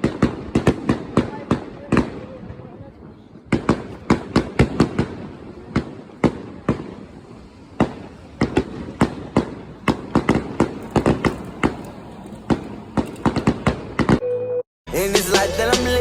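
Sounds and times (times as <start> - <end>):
fireworks bangs and crackles: 0.0 - 14.2.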